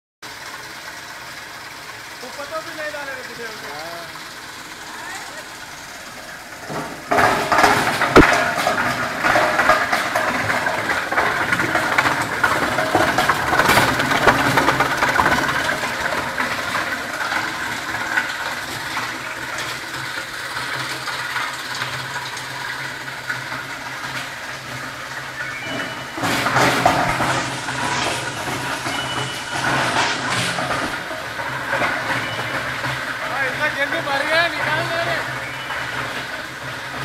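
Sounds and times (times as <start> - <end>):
grinder machine hum: 0.2 - 37.0
plastic crunching in grinder: 6.7 - 37.0.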